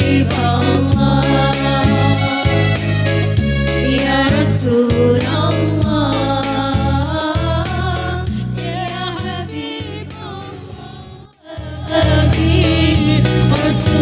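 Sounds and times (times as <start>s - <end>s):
women singing over percussion: 0.0s - 2.8s, 3.8s - 14.0s
song with singing and percussion: 0.0s - 14.0s.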